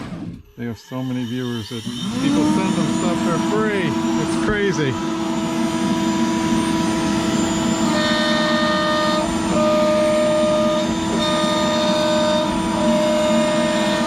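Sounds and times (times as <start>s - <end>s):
higher machine whine: 0.0s - 14.0s
router spindle steady whine: 0.0s - 14.0s.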